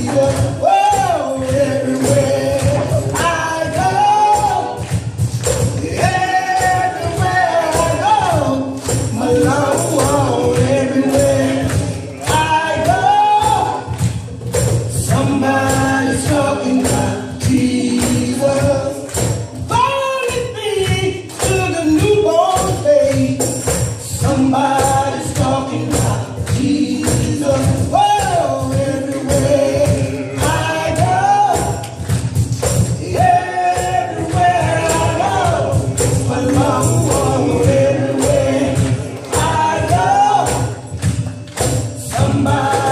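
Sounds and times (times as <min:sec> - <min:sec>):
choir singing gospel: 0:00.0 - 0:42.9
instrumental backing: 0:00.0 - 0:42.9
tambourine shaking: 0:00.0 - 0:42.9.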